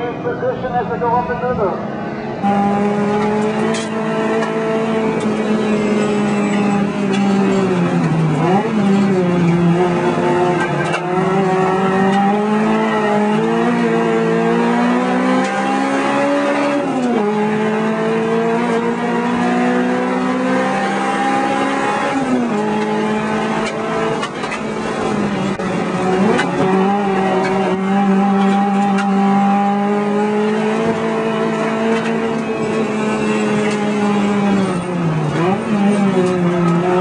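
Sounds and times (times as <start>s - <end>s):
car engine at full throttle: 0.0s - 37.0s.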